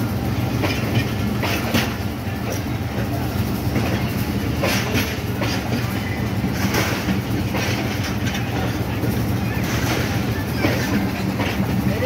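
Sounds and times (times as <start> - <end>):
train rumble: 0.0 - 12.0
train wheels clacking over rail joints: 0.0 - 12.0.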